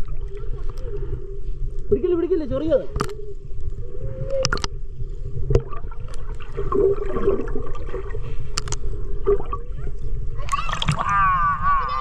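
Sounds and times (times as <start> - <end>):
low underwater rumble: 0.0 - 12.0
underwater sloshing and gurgling: 0.0 - 12.0.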